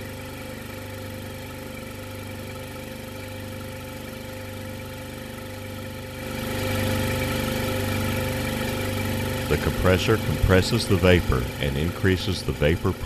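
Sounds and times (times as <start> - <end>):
gas compressor humming: 0.0 - 13.0.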